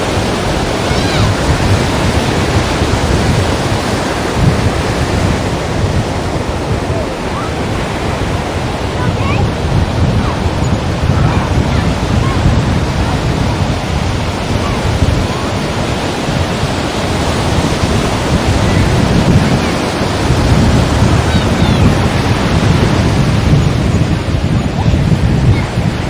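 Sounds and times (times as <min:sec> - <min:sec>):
waves breaking against rocks: 0:00.0 - 0:26.0
wind rumble on microphone: 0:00.0 - 0:26.0.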